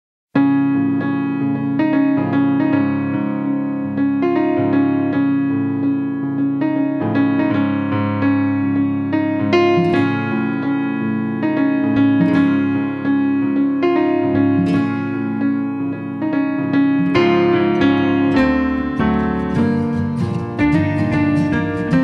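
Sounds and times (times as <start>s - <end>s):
keyboard chords: 0.4s - 22.0s.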